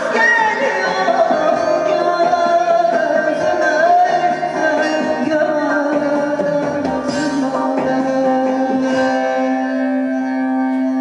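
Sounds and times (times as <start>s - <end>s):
woman singing: 0.0s - 10.4s
folk song on lute and keyboard: 0.0s - 11.0s.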